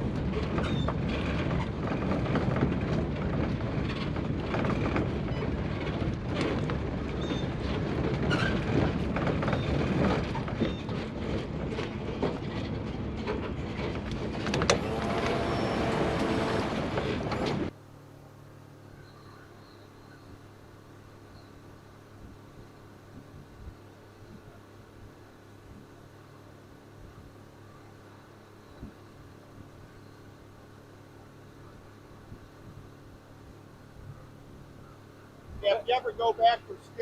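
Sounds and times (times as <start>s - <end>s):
boat motor drone: 0.0s - 37.0s
wind: 0.0s - 37.0s.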